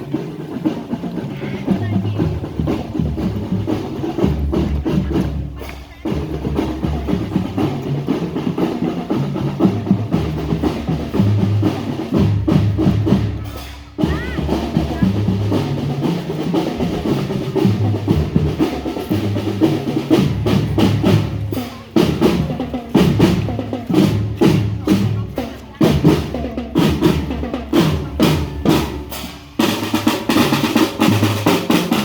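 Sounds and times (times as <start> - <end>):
bass drums: 0.0 - 32.0
snare drums rolling: 0.0 - 32.0.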